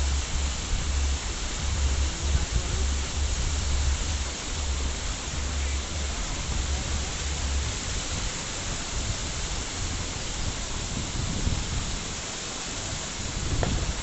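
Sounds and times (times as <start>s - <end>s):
low rumble: 0.0s - 12.0s
steady hiss: 0.0s - 14.0s.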